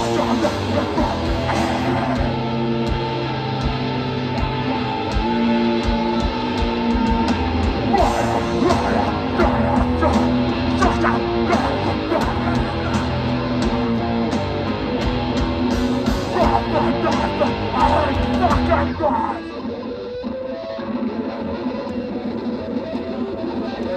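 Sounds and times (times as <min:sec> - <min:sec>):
live punk band playing loud: 0:00.0 - 0:23.9.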